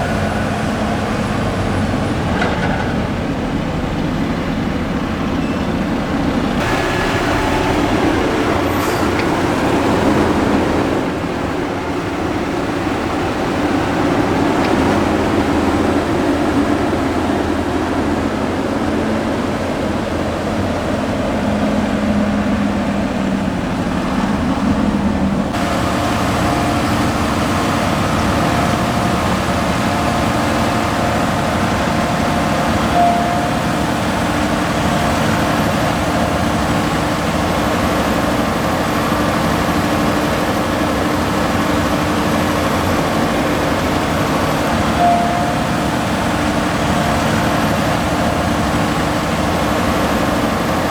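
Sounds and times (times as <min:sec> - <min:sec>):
diesel farm machinery running: 0:00.0 - 0:50.9
engine drone with faint whine: 0:00.0 - 0:50.9.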